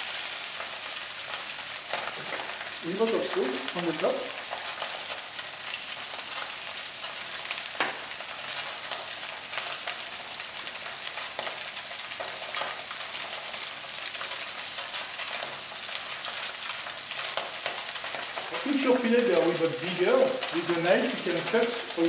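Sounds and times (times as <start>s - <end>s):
fish sizzling in a pan: 0.0s - 22.0s
oil crackling and popping: 0.0s - 22.0s.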